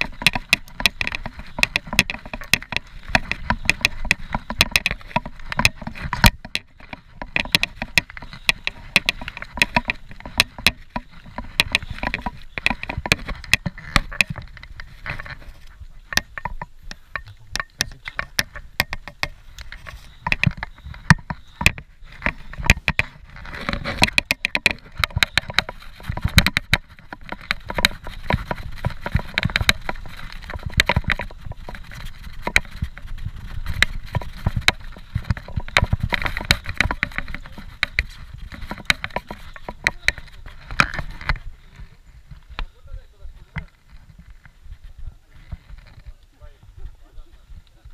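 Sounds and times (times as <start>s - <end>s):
bike clicking and knocking over bumps: 0.0s - 44.8s
bike tyres rumbling on dirt: 0.0s - 47.9s.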